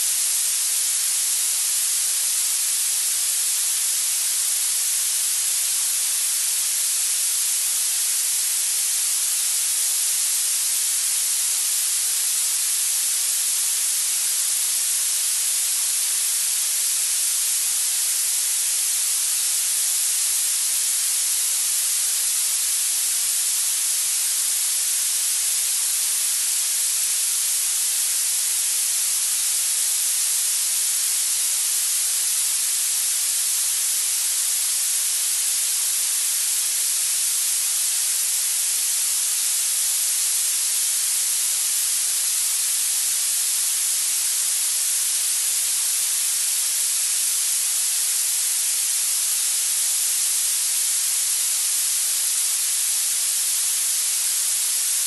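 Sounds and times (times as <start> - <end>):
steady bright hiss: 0.0 - 55.0.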